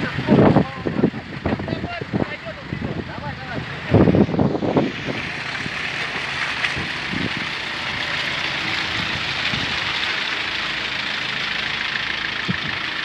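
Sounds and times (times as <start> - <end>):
van engine running: 0.0 - 13.0.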